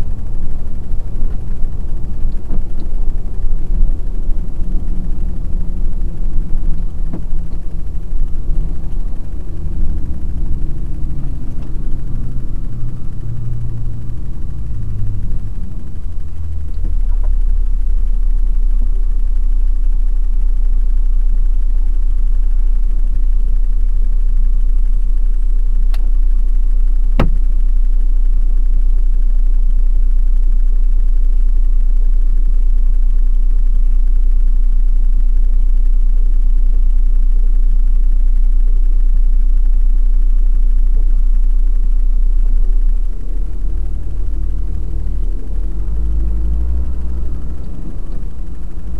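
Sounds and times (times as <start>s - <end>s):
truck engine drone: 0.0s - 48.9s.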